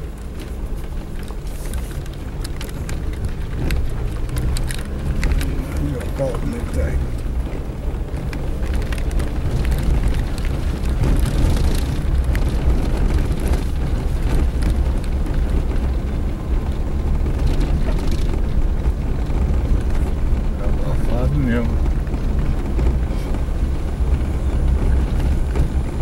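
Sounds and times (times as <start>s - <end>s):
engine and road drone: 0.0s - 26.0s.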